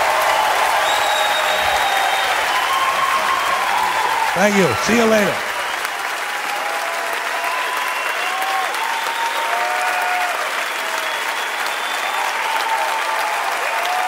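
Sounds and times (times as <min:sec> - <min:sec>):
audience applauding: 0:00.0 - 0:14.0
crowd cheering: 0:00.0 - 0:14.0.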